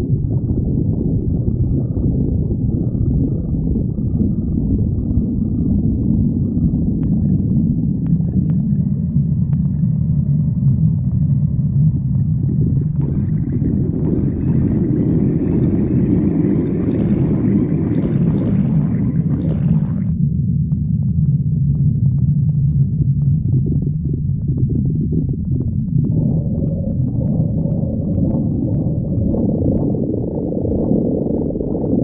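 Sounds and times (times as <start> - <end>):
stomach growling: 0.0 - 20.2, 21.0 - 32.0.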